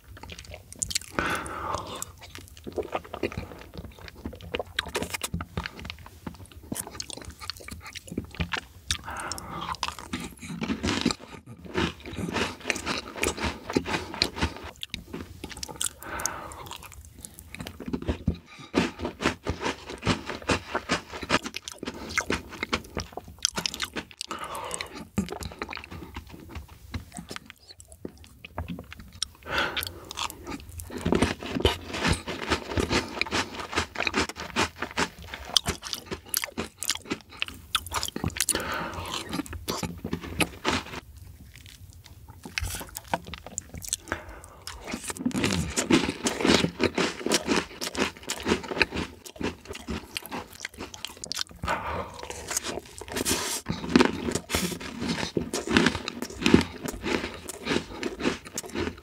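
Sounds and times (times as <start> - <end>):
close-miked chewing: 0.0 - 59.0.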